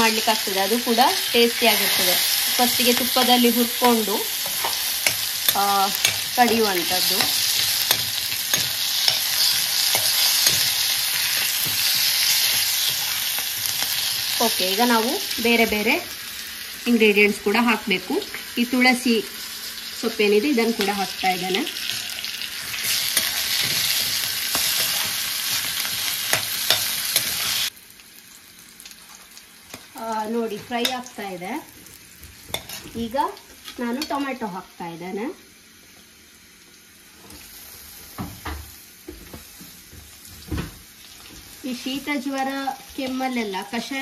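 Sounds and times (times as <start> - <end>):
onion and leaves sizzling: 0.0 - 44.0.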